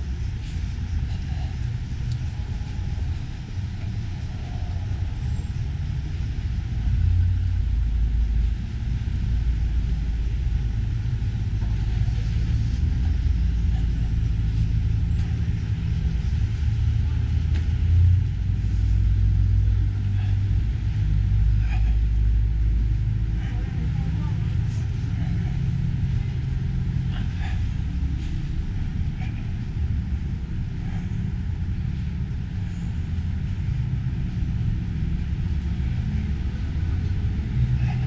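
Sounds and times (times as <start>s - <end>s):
distant traffic: 0.0s - 38.0s.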